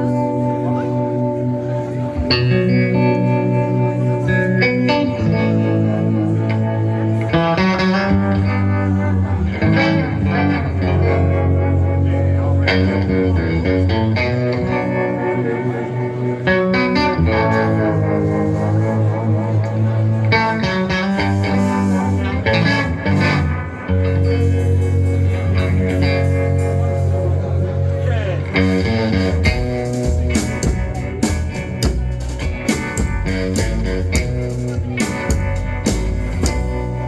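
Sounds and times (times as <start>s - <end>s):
bass guitar: 0.0s - 37.0s
guitar chords: 0.0s - 37.0s
rockabilly band playing: 0.0s - 37.0s.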